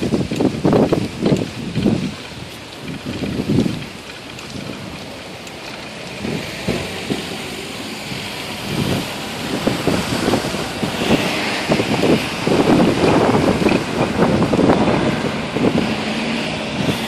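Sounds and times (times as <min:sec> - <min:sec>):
steady street hiss: 0:00.0 - 0:17.0
wind buffeting microphone: 0:00.0 - 0:17.0.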